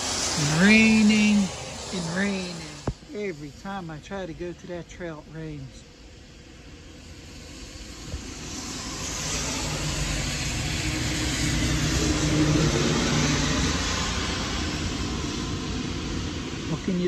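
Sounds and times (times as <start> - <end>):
low engine hum: 0.0 - 17.0
tyres hissing on wet street: 0.0 - 17.0.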